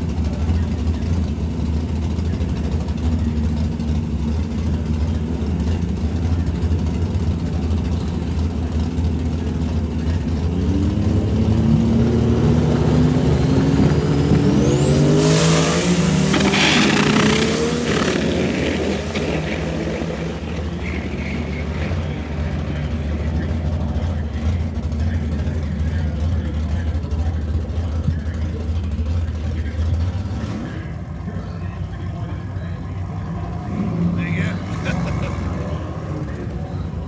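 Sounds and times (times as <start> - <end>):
car engine idling: 0.0 - 37.0
car engine revving: 0.0 - 37.0
high engine whine: 0.0 - 37.0.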